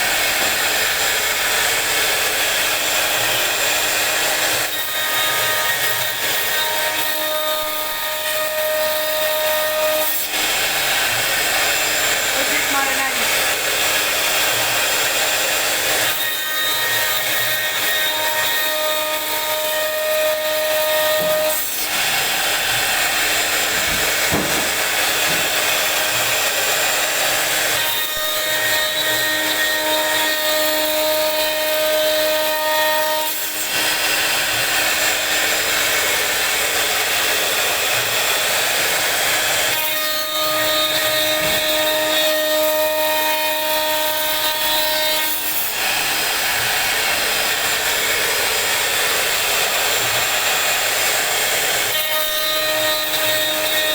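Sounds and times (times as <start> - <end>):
router cutting wood hiss: 0.0 - 53.9.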